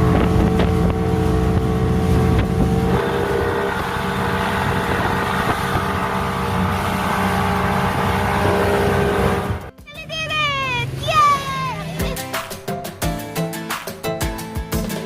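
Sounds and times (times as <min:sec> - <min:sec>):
speedboat engine running: 0:00.0 - 0:13.3.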